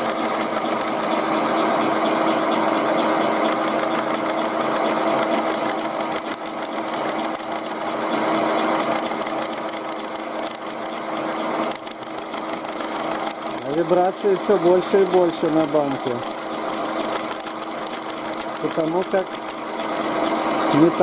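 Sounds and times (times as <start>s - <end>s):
can vibrating under cutter: 0.0s - 21.0s
milling machine cutting tin: 0.0s - 21.0s.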